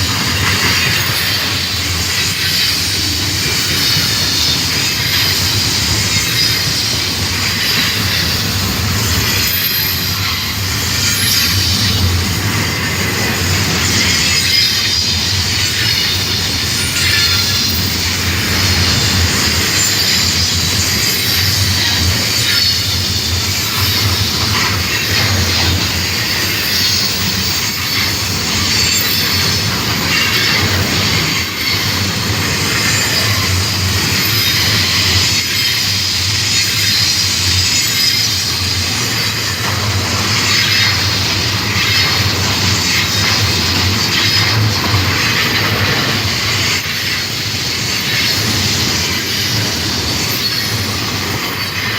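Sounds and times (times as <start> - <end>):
freight train cars rolling: 0.0 - 51.9
rail clicks and clacks: 0.0 - 51.9
wheels squealing on rails: 0.0 - 51.9.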